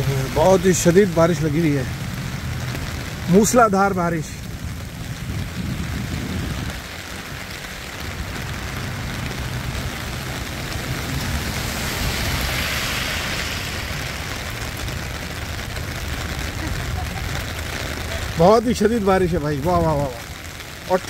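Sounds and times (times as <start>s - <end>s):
low rumble: 0.0s - 18.4s
torrential rain: 0.0s - 21.0s.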